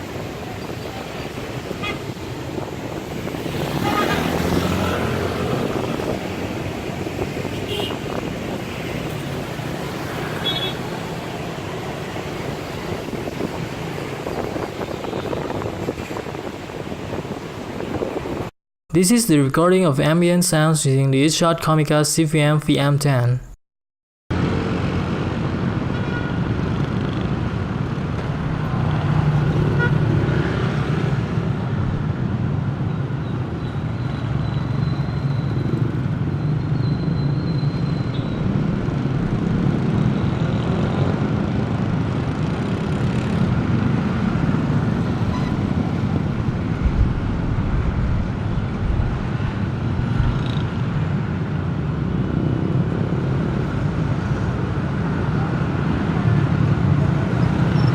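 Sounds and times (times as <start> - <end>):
road traffic noise: 0.0 - 23.6, 24.3 - 57.9.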